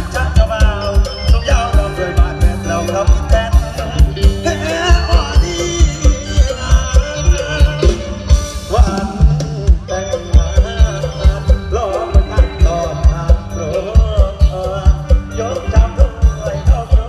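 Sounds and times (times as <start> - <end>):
bending melodic lead line: 0.0 - 17.0
heavy bass drum beat: 0.0 - 17.0.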